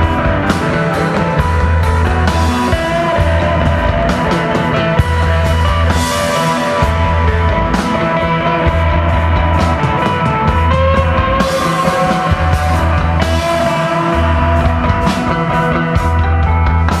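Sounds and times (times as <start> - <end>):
bass guitar notes: 0.0 - 17.0
drums and cymbals: 0.0 - 17.0
electric guitar: 0.0 - 17.0.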